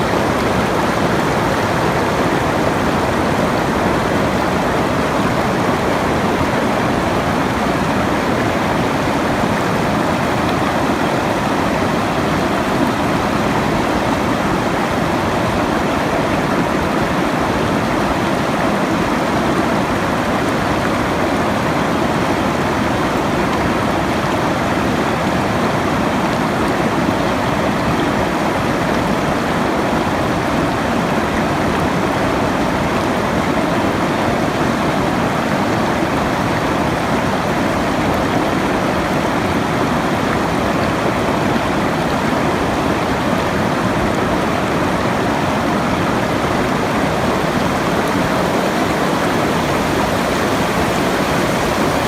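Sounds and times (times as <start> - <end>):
stream rushing: 0.0 - 52.0.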